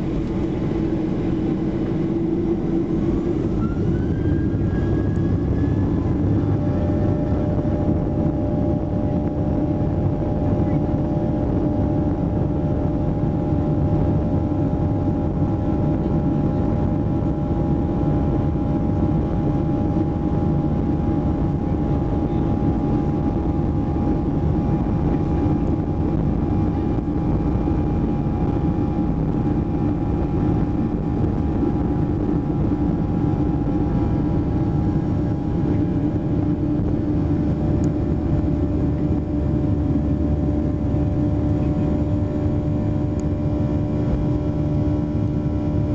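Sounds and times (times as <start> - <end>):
jet engines at takeoff thrust: 0.0 - 45.9.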